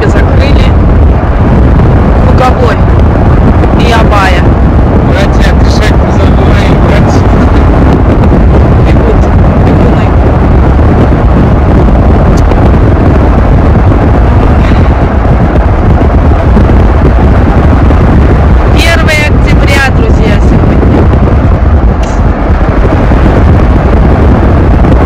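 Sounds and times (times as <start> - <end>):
car road and engine rumble: 0.0 - 25.0
wind buffeting microphone: 0.0 - 25.0.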